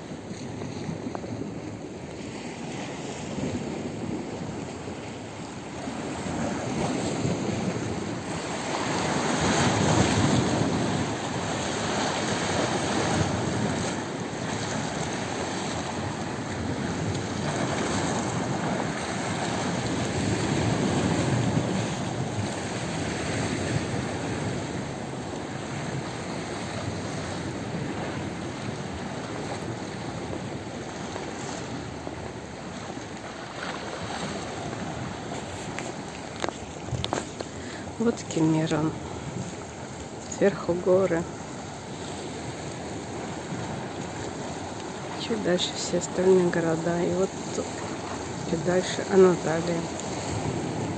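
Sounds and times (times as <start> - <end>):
waves washing against rocks: 0.0 - 50.9
wind on microphone: 0.0 - 50.9.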